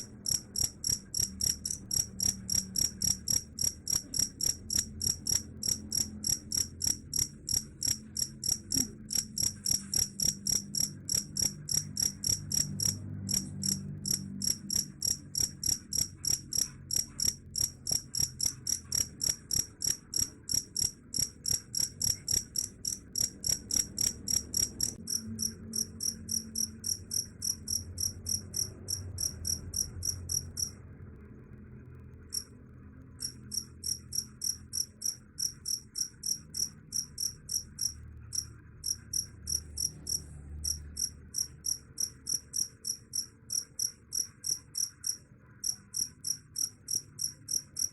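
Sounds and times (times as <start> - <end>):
cricket chirping: 0.0 - 30.8, 33.2 - 47.9.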